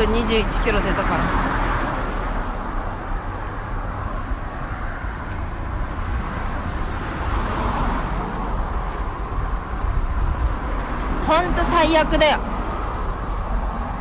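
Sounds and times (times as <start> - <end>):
road traffic rumbling: 0.0 - 14.0.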